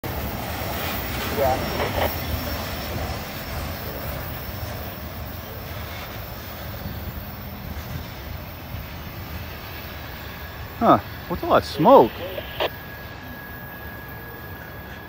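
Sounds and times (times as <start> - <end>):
train cars rolling on rails: 0.0 - 15.0.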